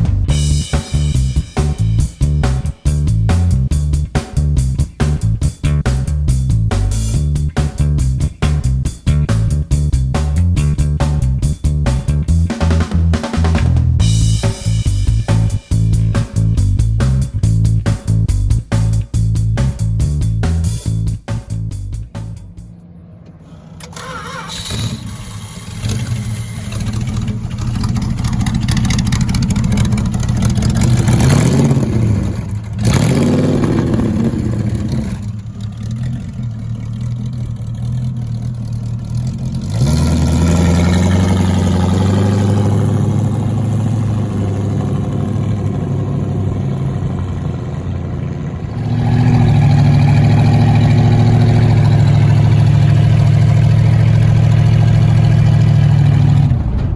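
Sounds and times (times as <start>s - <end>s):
car engine starting and revving: 0.0s - 56.9s.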